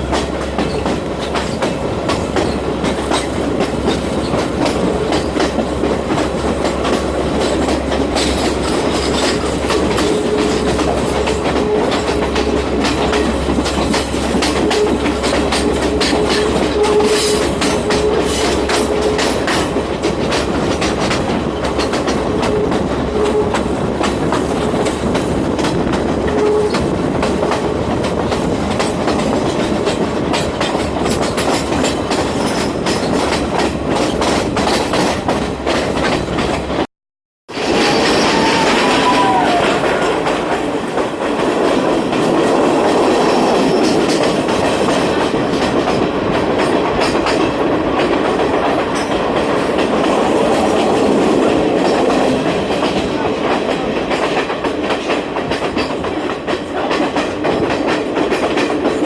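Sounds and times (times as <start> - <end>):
train rumbling along track: 0.0 - 36.9, 37.5 - 59.0
wheels clacking over rail joints: 0.0 - 36.9, 37.5 - 59.0.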